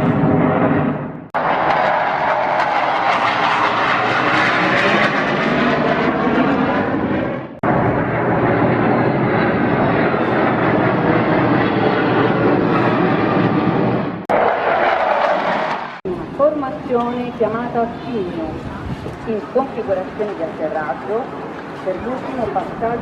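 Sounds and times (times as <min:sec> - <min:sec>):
jet aircraft roaring overhead: 0:00.0 - 0:23.0.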